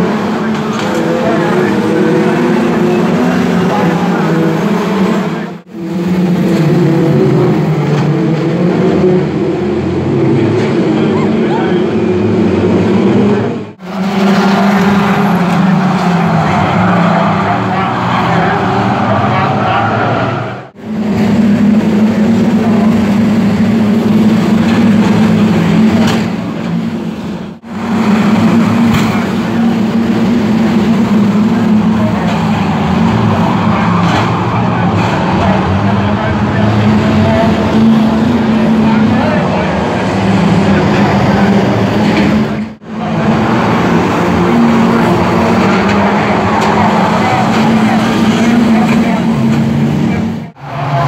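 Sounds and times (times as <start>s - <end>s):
stock car engines racing: 0.0s - 51.0s.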